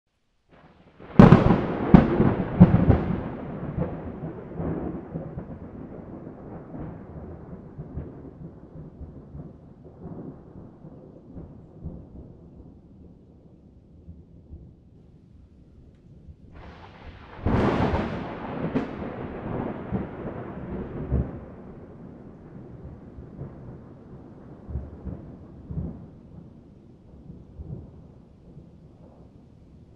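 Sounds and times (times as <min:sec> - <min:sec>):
thunder rumbling and cracking: 0:00.5 - 0:14.9, 0:16.0 - 0:29.9.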